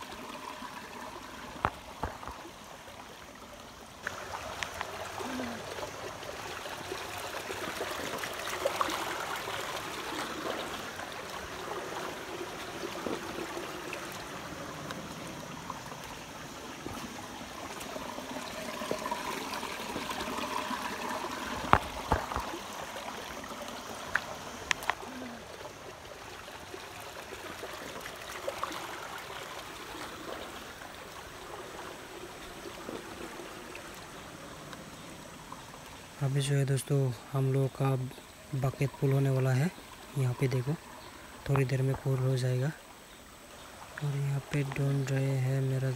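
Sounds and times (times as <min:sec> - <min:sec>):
stream trickling over stones: 0:00.0 - 0:45.9.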